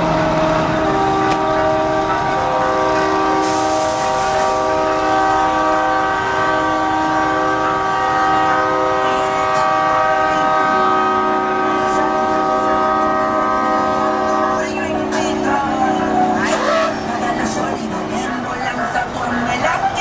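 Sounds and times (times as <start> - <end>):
truck air horns blasting: 0.0 - 19.4.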